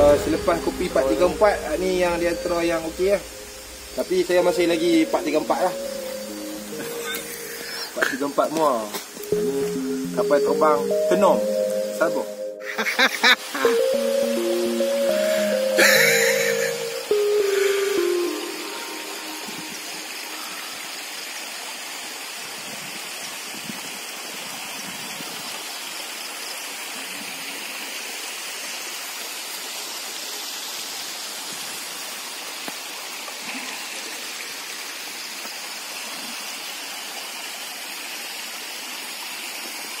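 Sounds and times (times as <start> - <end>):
water rushing over rocks: 0.0 - 12.3, 12.9 - 40.0.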